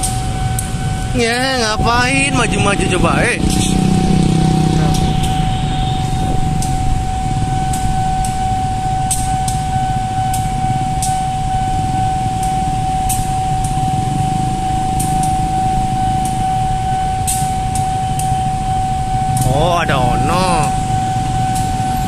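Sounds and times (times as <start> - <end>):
motorbike engines idling: 0.0 - 9.6, 10.3 - 22.0
steady high tone: 0.4 - 17.7, 18.9 - 22.0.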